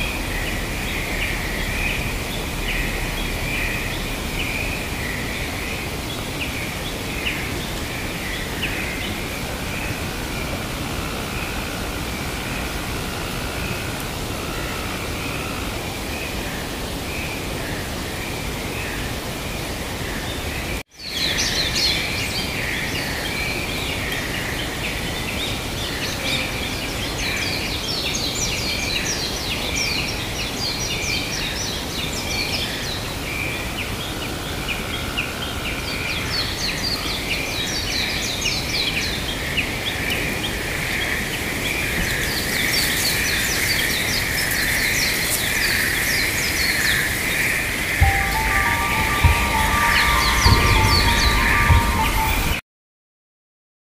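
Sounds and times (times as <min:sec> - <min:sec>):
steady outdoor hiss: 0:00.0 - 0:52.6.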